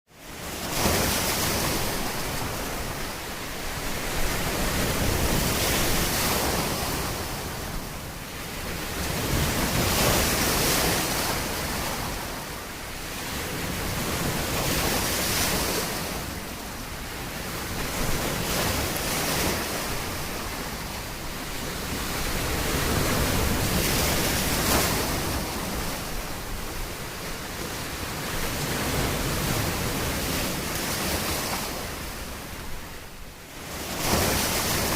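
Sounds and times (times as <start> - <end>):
ocean waves breaking on beach: 0.1 - 34.9.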